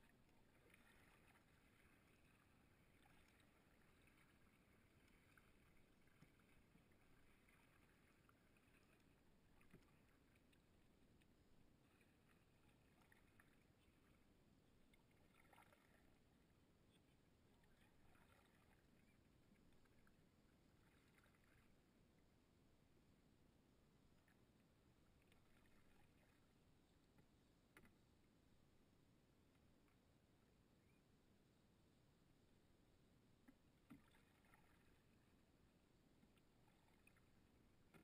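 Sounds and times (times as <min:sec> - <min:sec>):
soft paddle splashes: 0:00.0 - 0:22.0, 0:24.1 - 0:28.2, 0:33.4 - 0:38.0
faint water sounds: 0:00.0 - 0:38.0.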